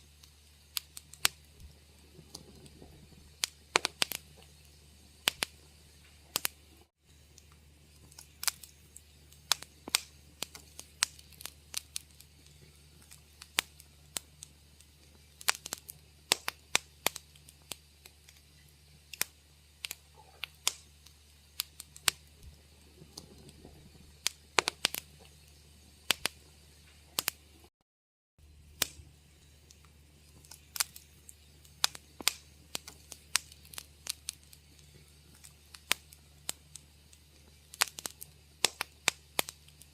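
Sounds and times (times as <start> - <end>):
faint low hum: 0.0 - 27.7, 28.4 - 39.9
wood fire crackling: 0.0 - 27.7, 28.4 - 39.9.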